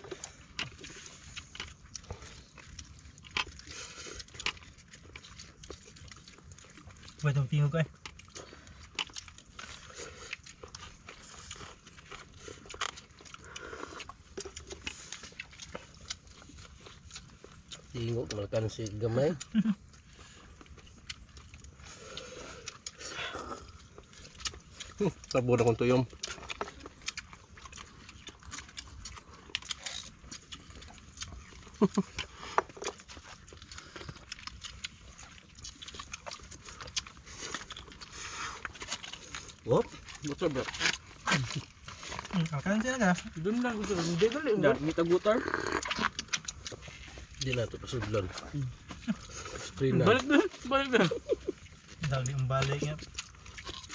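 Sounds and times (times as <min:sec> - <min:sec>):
eating smacks and slurps: 0:00.0 - 0:53.9.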